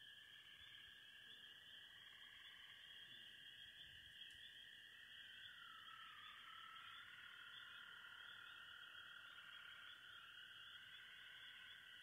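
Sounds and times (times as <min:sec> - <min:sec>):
frogs calling: 0:00.0 - 0:12.0.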